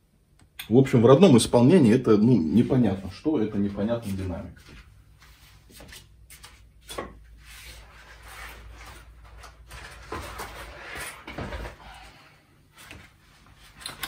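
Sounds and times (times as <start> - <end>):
rustling and scraping: 2.5 - 14.0.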